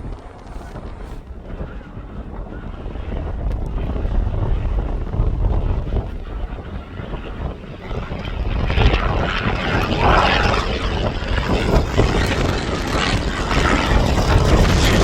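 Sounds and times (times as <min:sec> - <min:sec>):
aircraft engine noise: 0:00.0 - 0:15.0
wind rumbling on microphone: 0:00.0 - 0:15.0.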